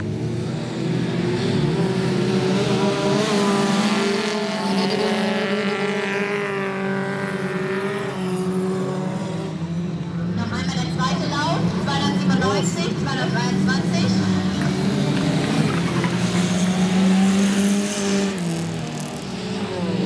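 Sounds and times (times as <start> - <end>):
racing car engines at full throttle: 0.0 - 20.0
racing car passing by: 0.0 - 20.0.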